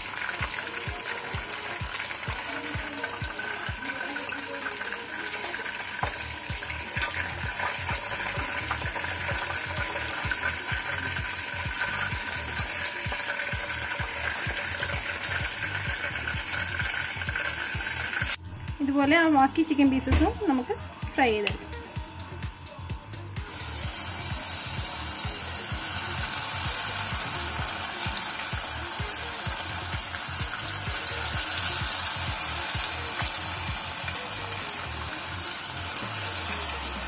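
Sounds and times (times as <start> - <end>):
background music with steady beat: 0.0 - 37.0
chicken sizzling in hot oil: 0.0 - 37.0.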